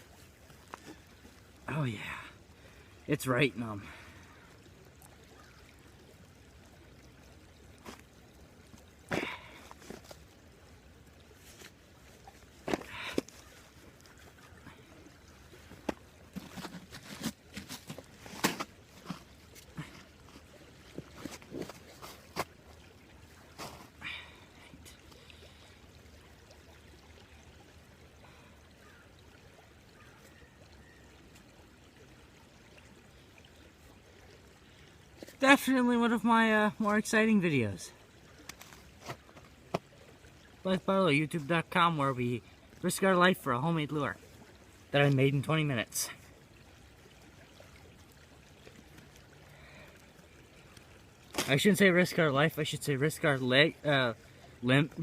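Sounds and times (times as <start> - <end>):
creek water running: 0.0 - 55.0.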